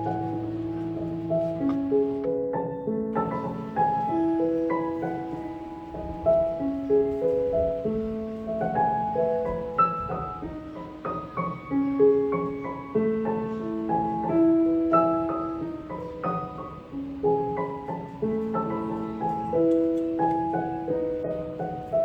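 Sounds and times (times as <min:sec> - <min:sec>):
gentle solo piano melody: 0:00.0 - 0:22.0.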